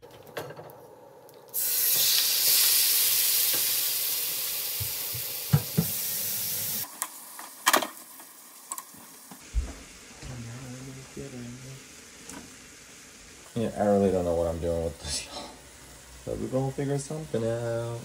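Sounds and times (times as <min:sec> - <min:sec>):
chicken sizzling in oil: 0:01.6 - 0:18.0.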